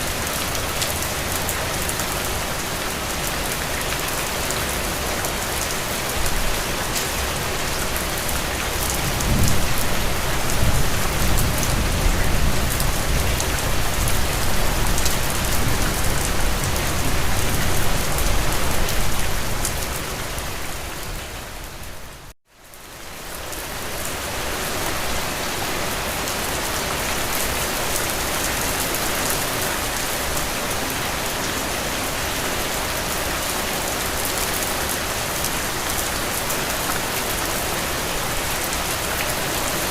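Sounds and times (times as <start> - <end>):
heavy rain falling on a surface: 0.0 - 39.9.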